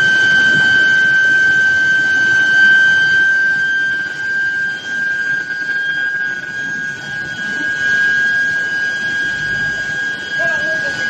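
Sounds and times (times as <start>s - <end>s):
high-pitched induction coil whine: 0.0s - 11.0s
roller conveyor machinery noise: 0.0s - 11.0s.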